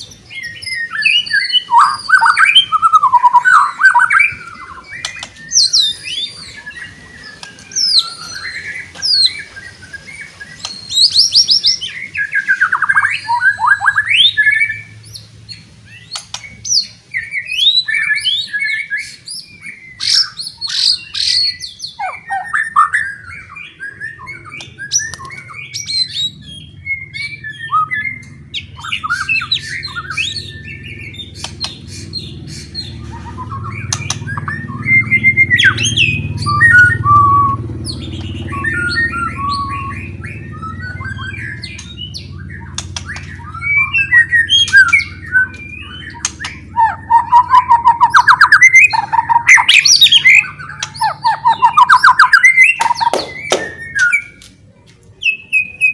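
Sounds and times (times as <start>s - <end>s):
bird singing loudly: 0.0s - 54.4s
low background hum: 0.0s - 55.9s.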